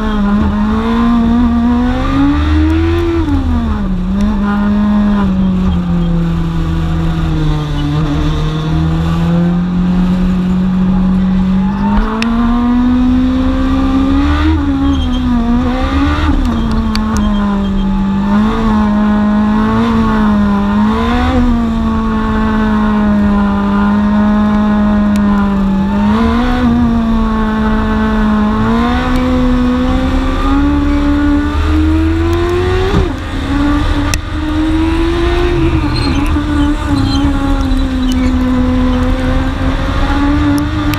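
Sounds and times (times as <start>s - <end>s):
race car engine revving: 0.0s - 40.9s
road noise: 0.0s - 40.9s.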